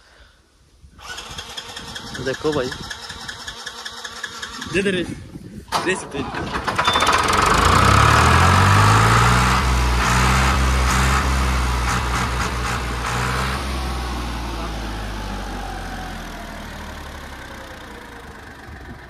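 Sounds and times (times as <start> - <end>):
tractor diesel engine running: 1.0 - 19.0.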